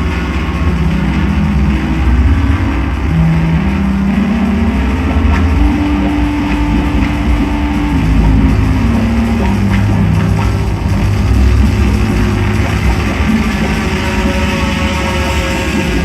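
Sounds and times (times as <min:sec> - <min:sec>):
high sustained tone: 0:00.0 - 0:16.0
psychedelic drone music: 0:00.0 - 0:16.0.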